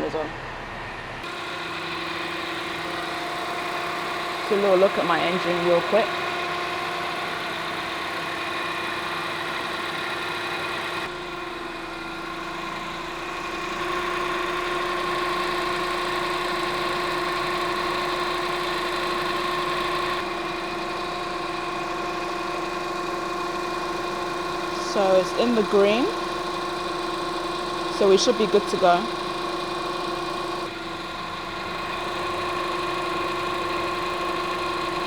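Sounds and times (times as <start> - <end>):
car engine idling: 1.2 - 35.0.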